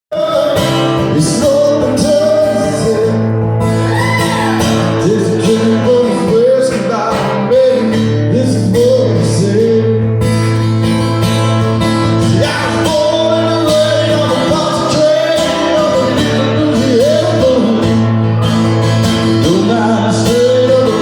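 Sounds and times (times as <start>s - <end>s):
person singing: 0.1s - 10.1s, 12.3s - 18.1s, 19.4s - 21.0s
guitar accompaniment: 0.1s - 21.0s.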